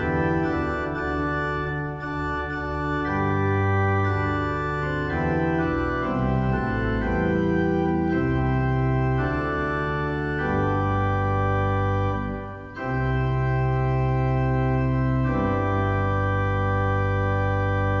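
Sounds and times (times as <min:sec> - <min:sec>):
organ chords: 0:00.0 - 0:18.0.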